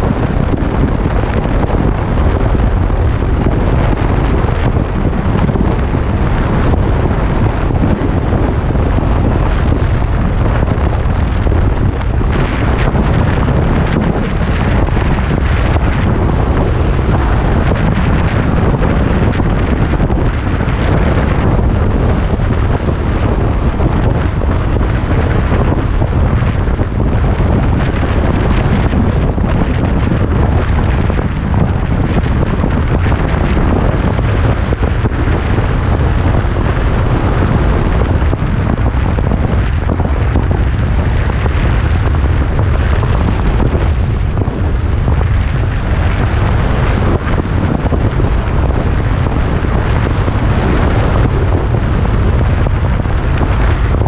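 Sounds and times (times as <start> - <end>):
motorcycle engine drone: 0.0 - 54.0
road noise: 0.0 - 54.0
wind buffeting microphone: 0.0 - 54.0.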